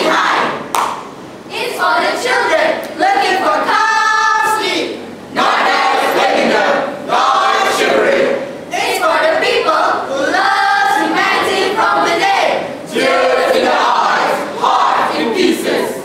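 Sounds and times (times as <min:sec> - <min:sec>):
voices declaiming in unison: 0:00.0 - 0:00.7, 0:01.5 - 0:16.0
voices holding a sung note: 0:00.0 - 0:00.7, 0:01.5 - 0:16.0.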